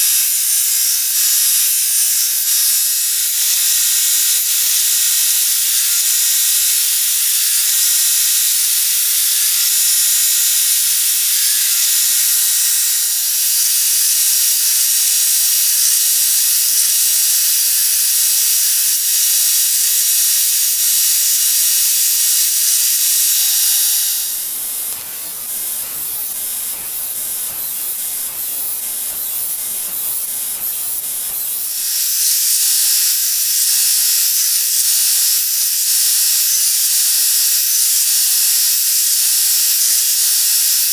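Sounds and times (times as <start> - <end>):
belt grinder hissing on steel: 0.0 - 40.9.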